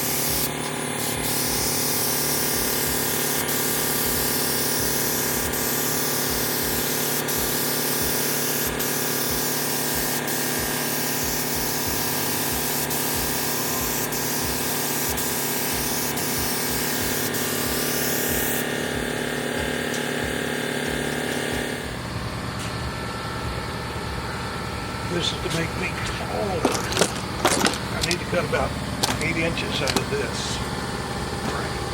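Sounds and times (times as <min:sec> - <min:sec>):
machine hum: 0:00.0 - 0:31.9
paint spray gun hissing: 0:00.0 - 0:31.9.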